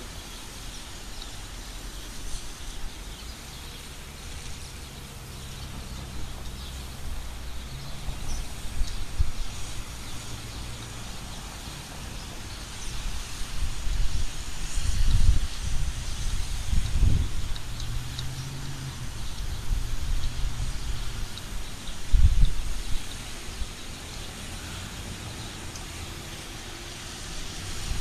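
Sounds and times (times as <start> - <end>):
tyres on wet road: 0.0 - 28.0.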